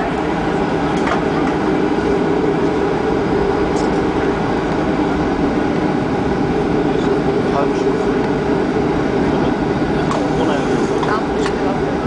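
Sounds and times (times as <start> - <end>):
jet engines running: 0.0 - 12.0
wheels rumbling on runway: 0.0 - 12.0.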